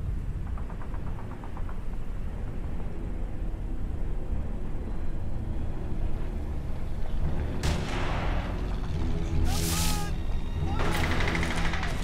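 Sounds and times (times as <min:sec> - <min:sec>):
distant aircraft engines droning: 0:00.0 - 0:12.0.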